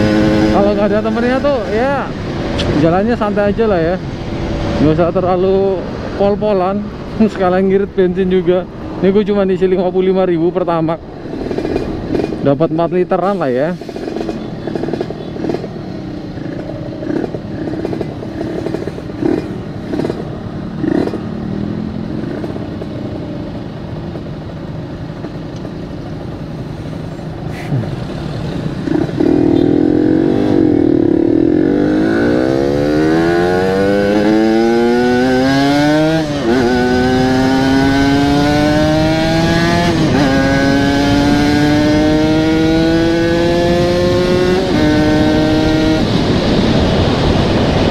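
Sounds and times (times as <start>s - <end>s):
motorcycle engine accelerating: 0.0s - 5.1s, 13.8s - 47.9s.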